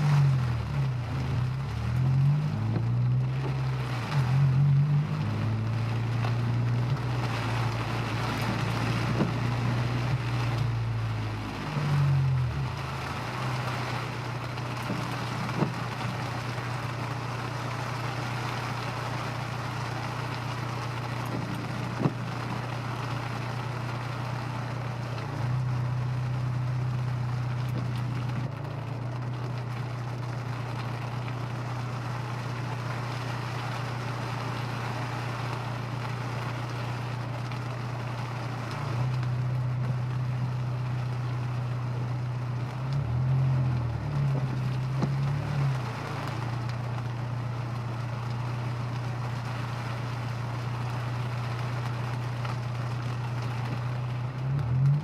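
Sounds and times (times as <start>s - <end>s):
car engine drone: 0.0s - 55.0s.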